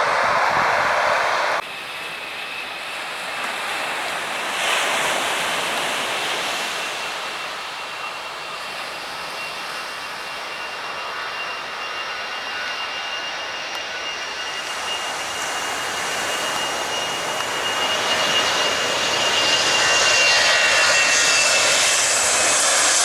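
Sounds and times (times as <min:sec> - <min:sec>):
jet engines running: 0:00.0 - 0:23.0.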